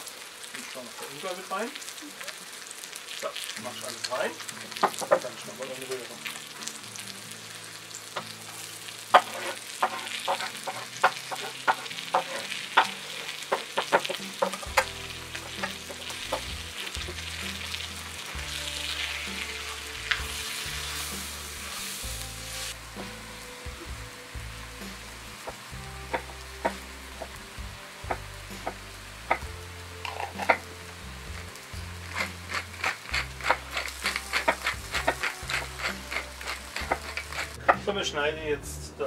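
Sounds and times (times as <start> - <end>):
food sizzling in a pot: 0.0 - 38.3.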